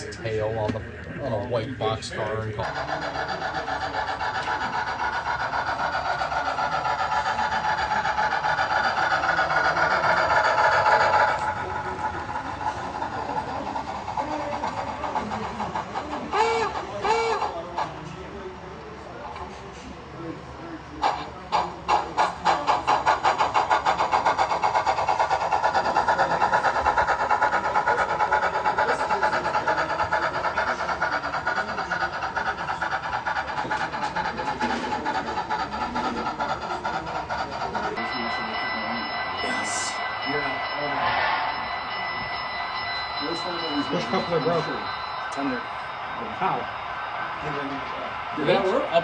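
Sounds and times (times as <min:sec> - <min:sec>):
model train whirring and clattering: 0:00.0 - 0:49.0.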